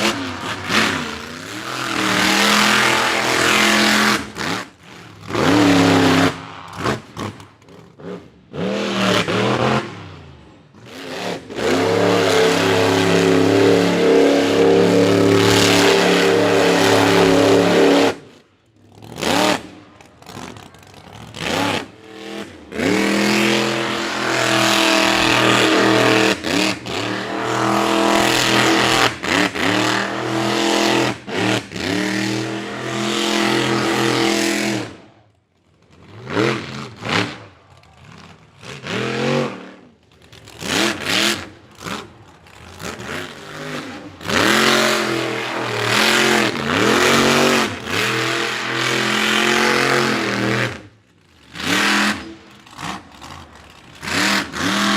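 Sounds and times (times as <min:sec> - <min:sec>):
truck engine revving hard: 0:00.0 - 0:07.4, 0:08.0 - 0:18.3, 0:18.9 - 0:35.0, 0:36.1 - 0:39.9, 0:40.5 - 0:54.9.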